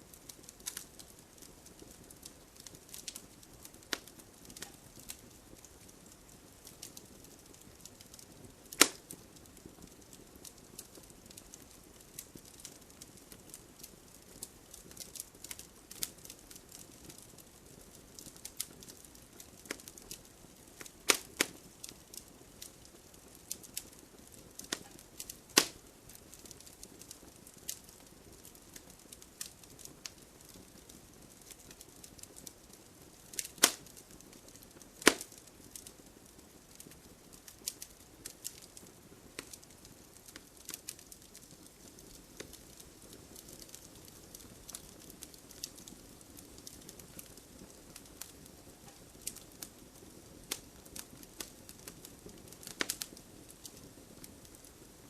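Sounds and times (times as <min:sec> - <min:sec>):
soft hiss: 0:00.0 - 0:55.0
wood fire crackling: 0:00.0 - 0:55.0.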